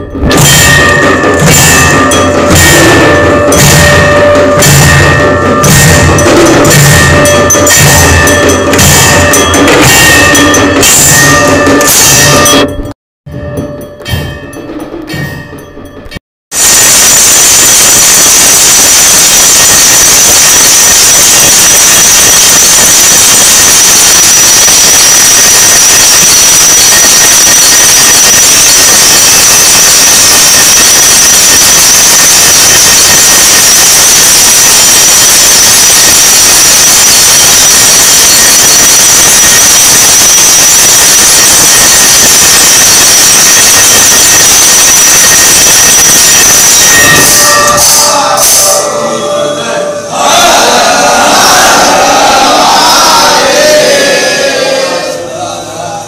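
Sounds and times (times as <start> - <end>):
bells and percussion clanging: 0.0 - 50.1.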